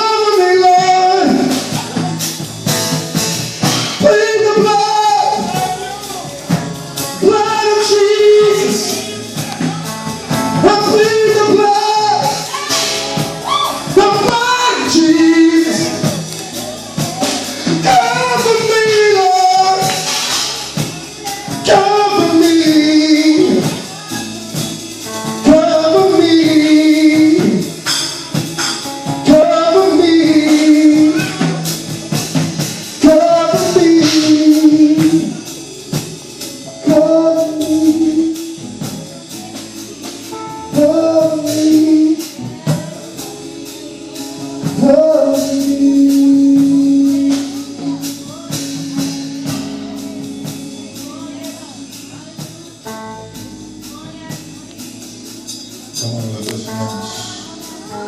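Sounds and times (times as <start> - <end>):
gospel singers with band: 0.0 - 58.0.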